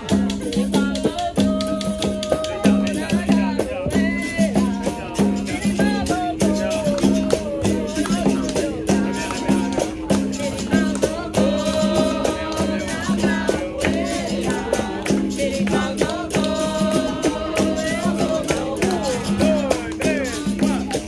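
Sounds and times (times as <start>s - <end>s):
berimbau: 0.0s - 21.0s
pandeiro: 0.0s - 21.0s
percussive strikes: 0.0s - 21.0s
voices singing: 0.0s - 21.0s.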